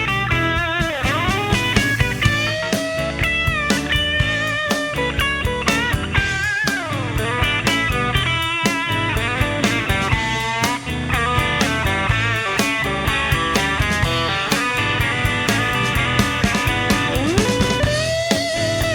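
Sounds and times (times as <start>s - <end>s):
bass guitar: 0.0s - 18.9s
drum beat: 0.0s - 18.9s
lead electric guitar: 0.0s - 18.9s.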